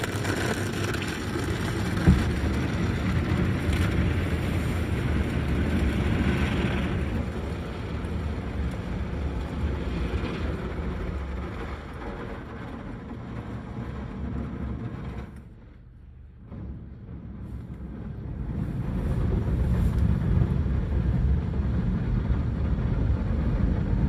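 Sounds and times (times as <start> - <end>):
car wash water rushing: 0.0 - 24.0.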